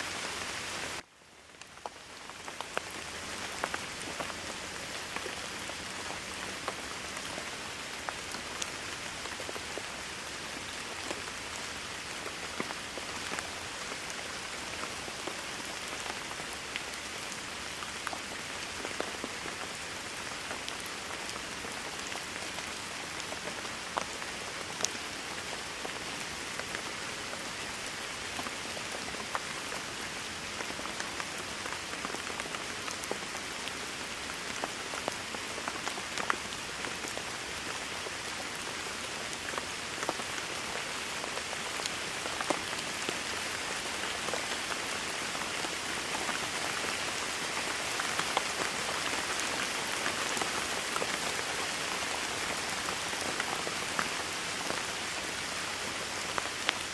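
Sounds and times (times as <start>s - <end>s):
rain on a hard surface: 0.0s - 56.9s.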